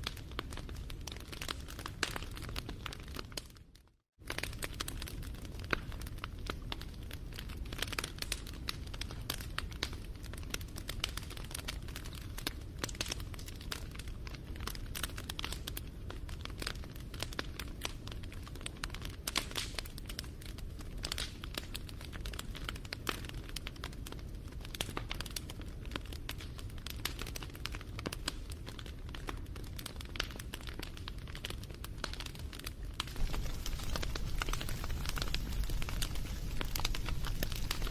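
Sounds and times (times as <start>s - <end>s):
campfire crackling and popping: 0.0s - 3.6s, 4.2s - 37.9s
low rumble of flames: 4.2s - 37.9s.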